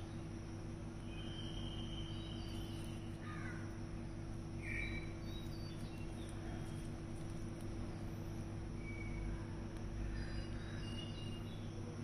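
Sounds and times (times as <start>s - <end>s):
birds calling: 0.0s - 11.9s
steady low hum: 0.0s - 12.0s.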